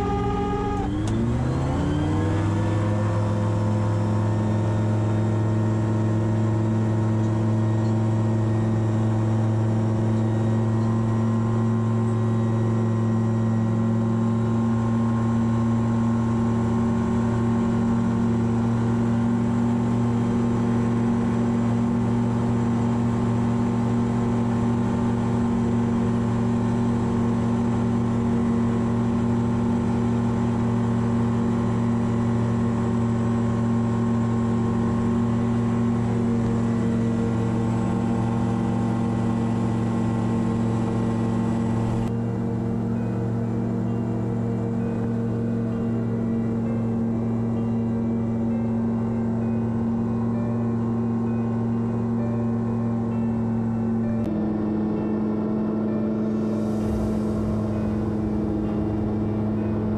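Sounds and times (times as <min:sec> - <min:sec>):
gyroplane engine running: 0:00.0 - 0:59.9.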